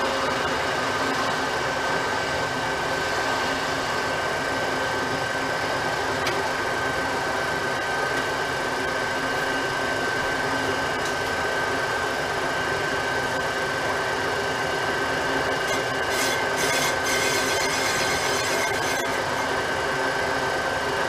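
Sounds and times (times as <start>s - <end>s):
metal lathe whining: 0.0s - 21.0s.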